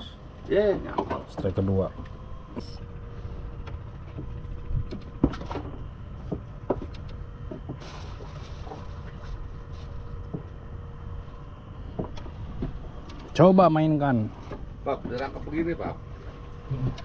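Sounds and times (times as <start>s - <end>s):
boat engine rumbling: 0.0s - 17.0s
faint constant hum: 0.0s - 17.0s.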